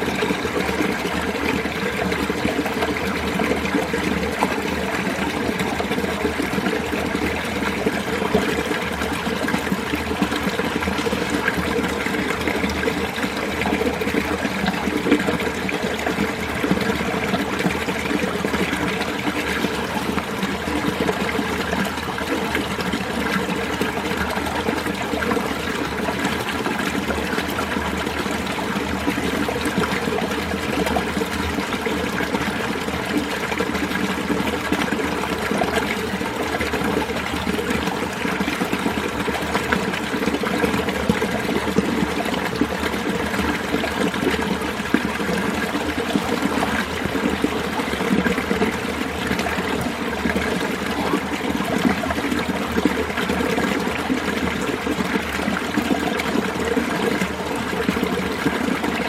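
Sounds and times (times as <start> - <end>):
stream splashing over rocks: 0.0 - 59.0.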